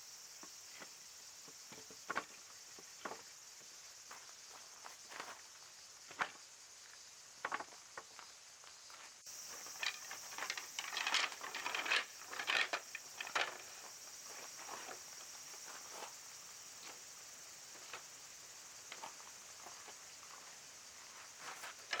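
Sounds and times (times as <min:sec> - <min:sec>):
steady high-pitched hiss: 0:00.0 - 0:22.0.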